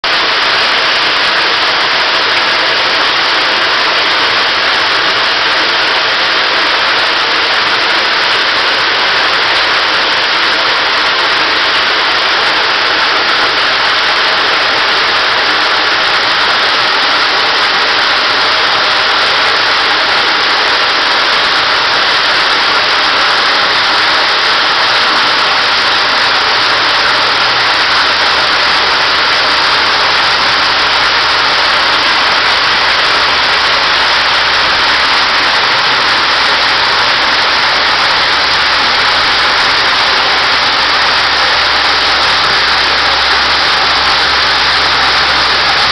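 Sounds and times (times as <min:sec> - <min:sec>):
waterfall splashing into pool: 0:00.0 - 0:45.9.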